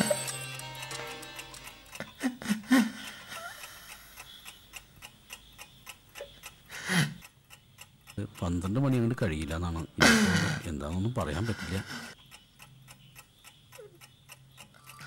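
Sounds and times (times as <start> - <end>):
clock ticking fast: 0.0 - 15.0.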